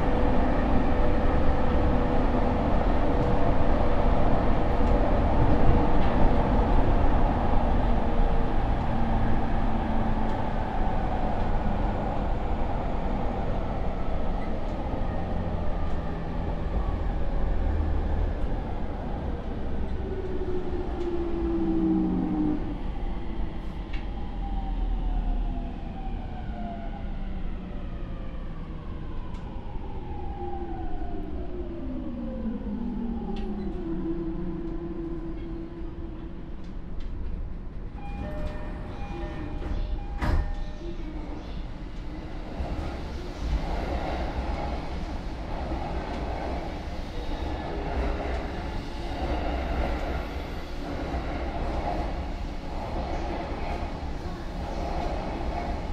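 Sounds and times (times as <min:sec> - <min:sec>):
wheels rumbling on rail: 0:00.0 - 0:24.5, 0:32.4 - 0:55.9.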